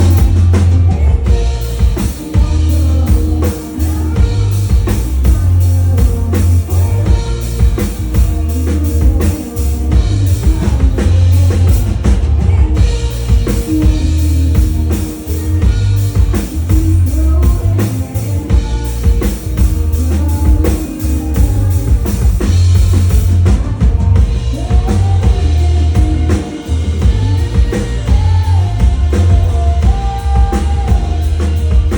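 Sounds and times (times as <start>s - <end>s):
band playing country-rock: 0.0s - 31.9s
person singing: 0.0s - 31.9s.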